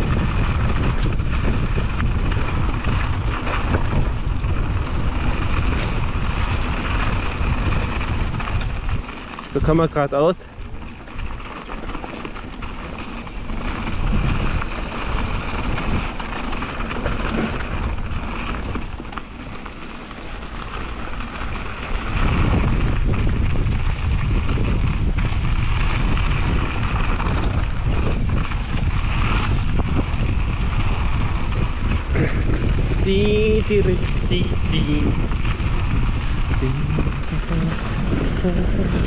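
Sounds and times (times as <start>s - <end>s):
bike knocks and rattles: 0.0s - 36.7s
bike tyres rolling on dirt: 0.0s - 39.0s
wind noise on microphone: 0.0s - 39.0s.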